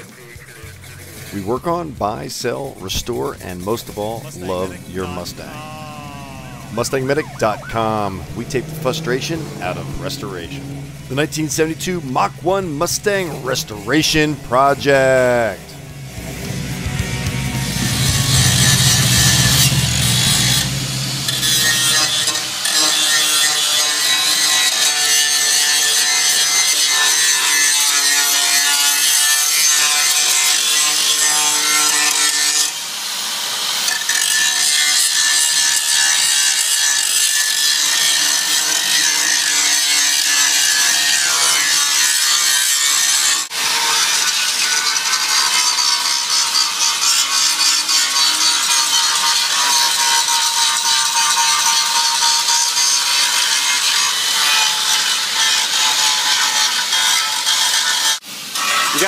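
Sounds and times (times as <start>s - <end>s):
angle grinder cutting metal: 0.0s - 59.0s.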